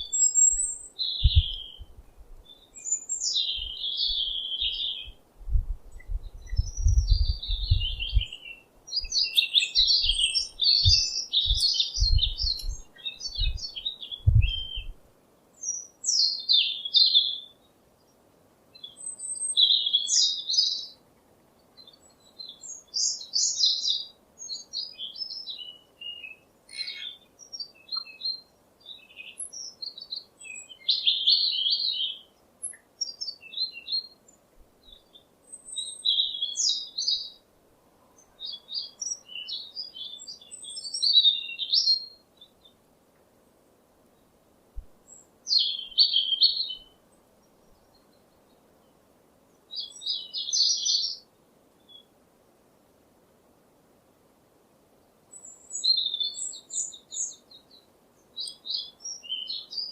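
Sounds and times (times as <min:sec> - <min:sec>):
small birds chirping: 0:00.0 - 0:52.2, 0:54.9 - 0:59.9.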